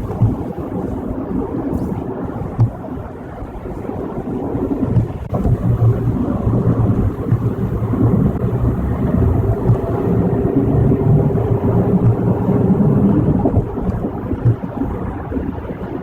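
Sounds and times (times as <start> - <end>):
road and tyre rumble: 0.0 - 16.0
wind noise inside car: 0.0 - 16.0.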